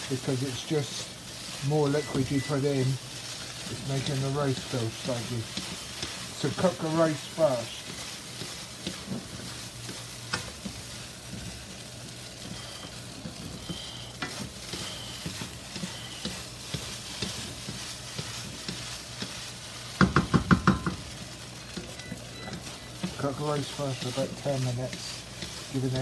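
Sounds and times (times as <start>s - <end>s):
rice sizzling in a wok: 0.0s - 26.0s.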